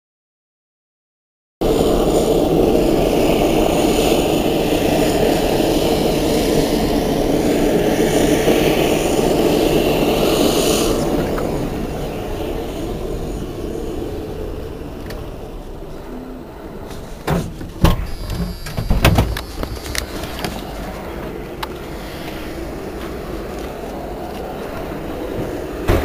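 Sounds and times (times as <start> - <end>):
hiss: 1.6 - 26.0
loud engine noise: 1.6 - 26.0.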